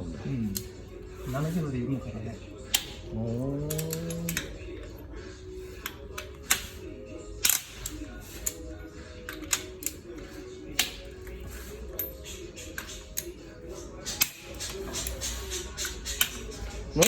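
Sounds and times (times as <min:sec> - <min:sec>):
hand tools clinking on metal: 0:00.0 - 0:17.0
quiet background music: 0:00.0 - 0:17.0.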